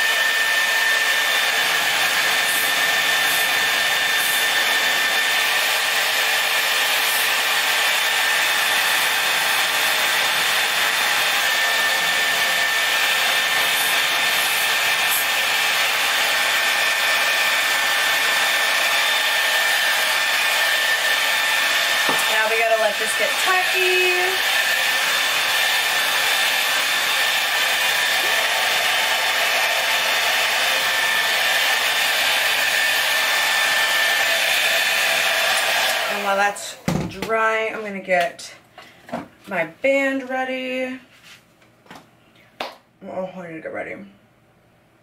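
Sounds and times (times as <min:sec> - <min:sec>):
blow dryer running: 0:00.0 - 0:38.3.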